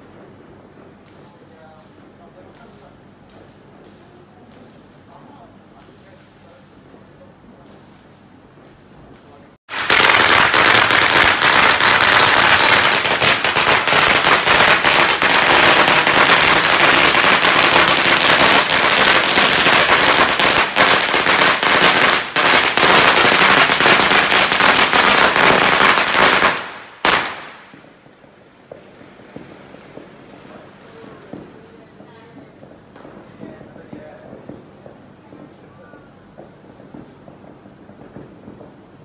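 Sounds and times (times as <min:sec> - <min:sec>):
firecrackers rattling: 0:00.0 - 0:39.0.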